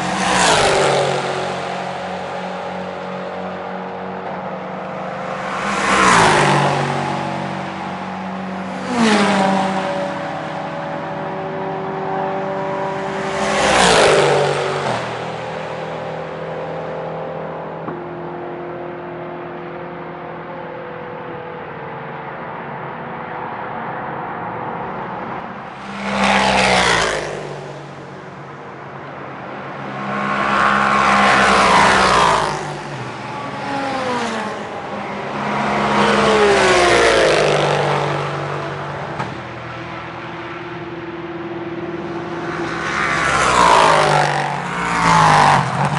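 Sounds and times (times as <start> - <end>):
distant cars droning: 0.0 - 45.9
racing cars passing at speed: 0.0 - 45.9.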